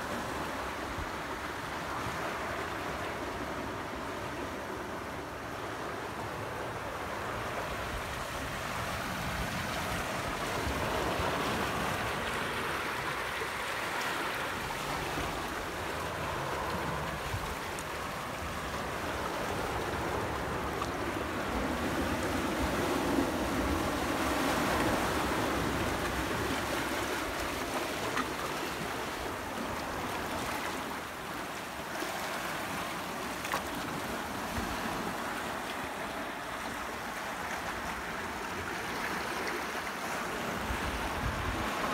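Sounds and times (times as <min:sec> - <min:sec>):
waves washing over rocks: 0:00.0 - 0:41.9.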